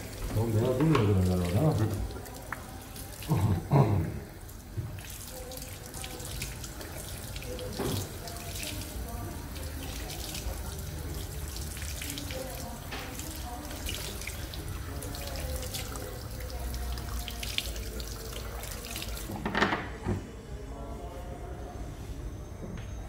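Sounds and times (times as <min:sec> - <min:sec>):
water spraying into sink: 0:00.0 - 0:19.5.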